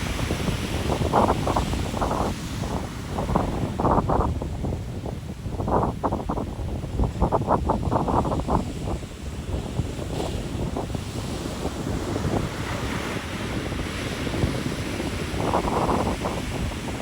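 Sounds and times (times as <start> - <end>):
ocean surf washing in: 0.0 - 17.0
wind buffeting microphone: 0.0 - 17.0.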